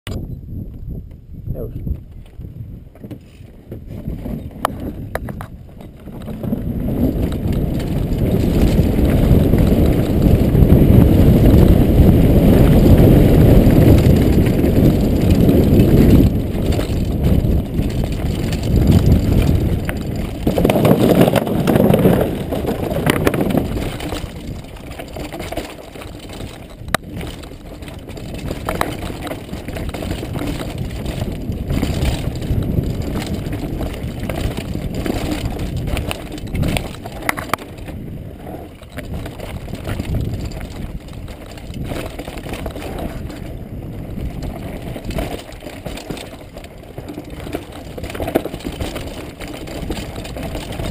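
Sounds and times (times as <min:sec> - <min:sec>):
bike knocking and rattling: 0:00.1 - 0:50.9
wind buffeting microphone: 0:00.1 - 0:50.9
tyres rumbling over dirt and rock: 0:01.8 - 0:50.9.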